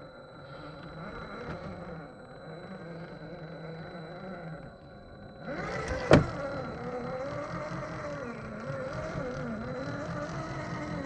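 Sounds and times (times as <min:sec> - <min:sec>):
rc car electric motor whining: 0:00.0 - 0:11.0.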